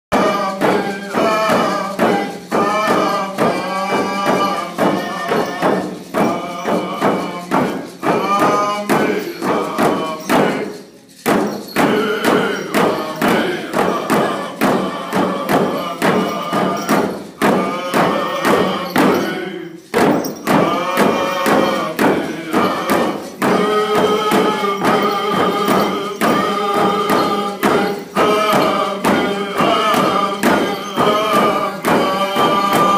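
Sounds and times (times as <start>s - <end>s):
group of singers chanting: 0.1s - 10.8s, 11.8s - 19.8s, 20.5s - 32.9s
hand drums beating: 0.1s - 32.9s.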